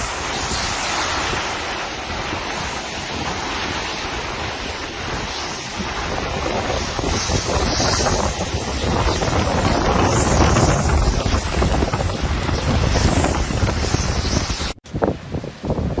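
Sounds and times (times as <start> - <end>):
surf breaking: 0.0 - 14.8
wind blowing over microphone: 0.0 - 16.0.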